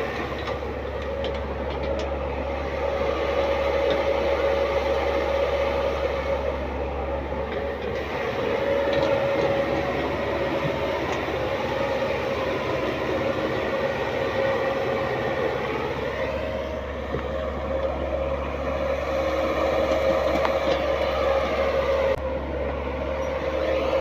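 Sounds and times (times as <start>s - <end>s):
heavy vehicle engine droning: 0.0s - 24.0s.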